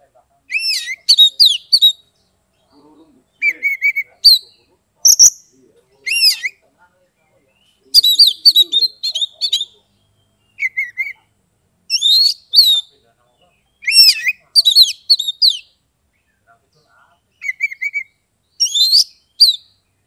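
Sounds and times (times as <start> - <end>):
bird whistling song: 0.5 - 6.6, 7.4 - 11.3, 11.9 - 20.0.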